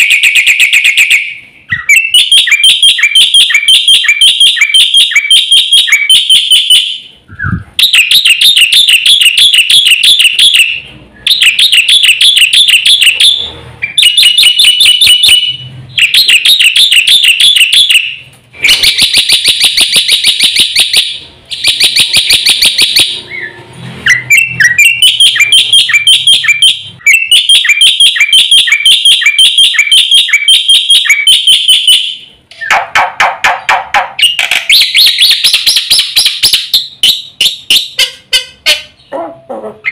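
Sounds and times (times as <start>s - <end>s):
bird chattering song: 0.0s - 39.2s.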